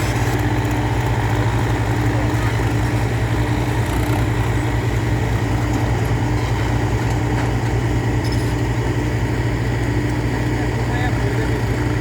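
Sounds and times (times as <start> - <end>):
heavy machine diesel engine running: 0.0 - 12.0.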